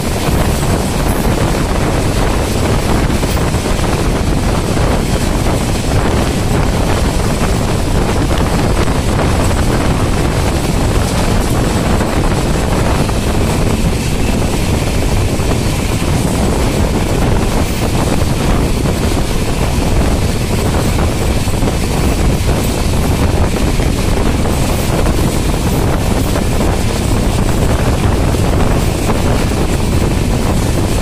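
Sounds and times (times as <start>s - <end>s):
passenger train rumbling on track: 0.0s - 31.0s
wind buffeting microphone: 0.0s - 31.0s.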